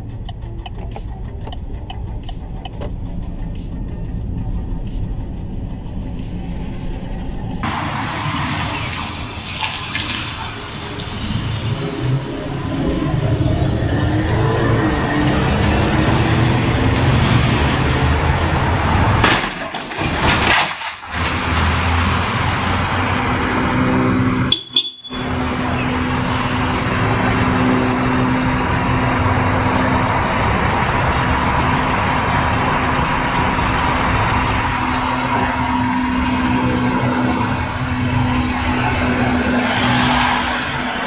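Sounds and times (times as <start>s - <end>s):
vehicle road and engine noise: 0.0s - 41.0s.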